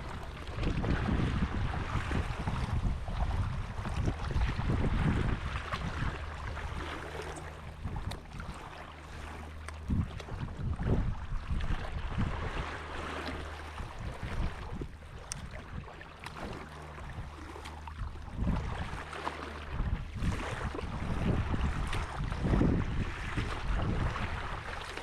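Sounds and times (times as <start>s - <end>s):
water lapping and splashing: 0.0s - 25.0s
wind buffeting microphone: 0.0s - 25.0s.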